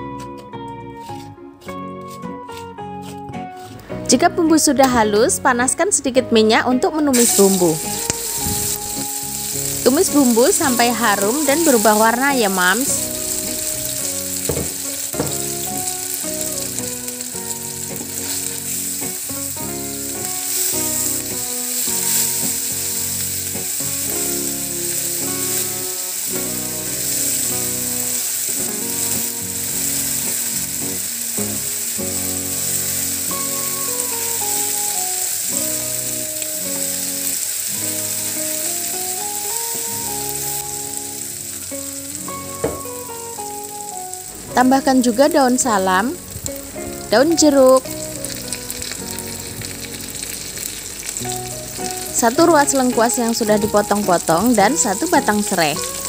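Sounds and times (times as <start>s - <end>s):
background music stepping melody: 0.0s - 56.0s
spice paste sizzling in oil: 1.0s - 6.0s, 6.8s - 56.0s.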